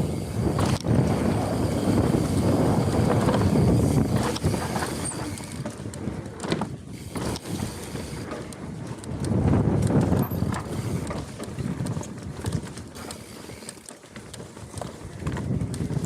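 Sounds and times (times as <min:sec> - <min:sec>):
wind buffeting microphone: 0:00.0 - 0:13.4, 0:14.6 - 0:16.0
tyres rumbling on dirt: 0:00.3 - 0:16.0.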